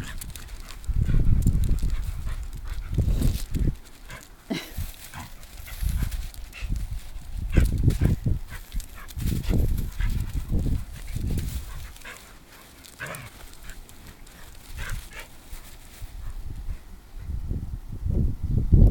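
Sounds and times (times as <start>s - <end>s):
low thumps and rumbles: 0.0s - 18.9s.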